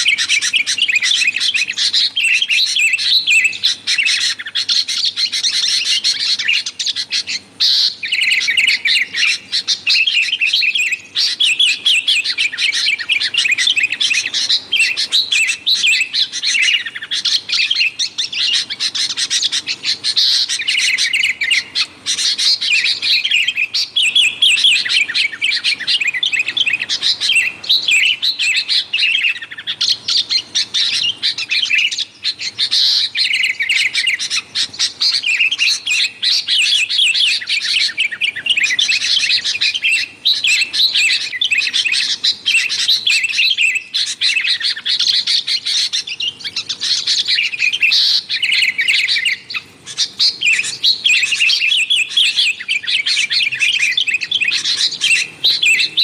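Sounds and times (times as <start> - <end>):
birds chirping rapidly: 0.0 - 56.0.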